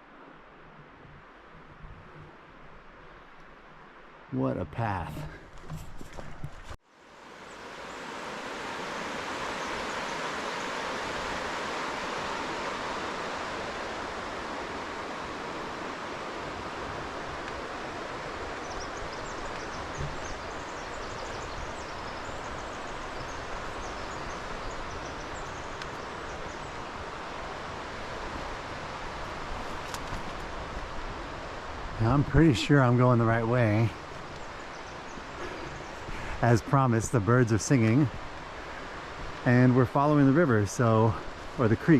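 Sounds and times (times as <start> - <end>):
creek water rushing: 6.9 - 41.9.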